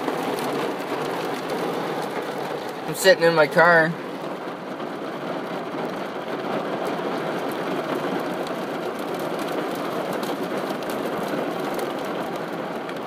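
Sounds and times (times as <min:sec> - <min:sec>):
hail ticking: 0:00.0 - 0:13.0
rain hissing on a car: 0:00.0 - 0:13.0.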